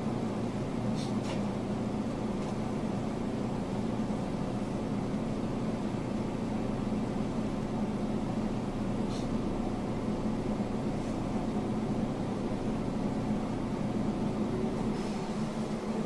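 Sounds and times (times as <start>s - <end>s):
electric train humming and rumbling: 0.0s - 16.0s.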